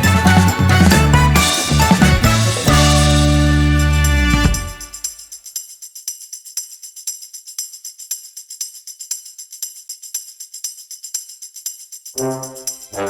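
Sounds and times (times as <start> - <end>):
tambourine percussion pattern: 0.0 - 13.0.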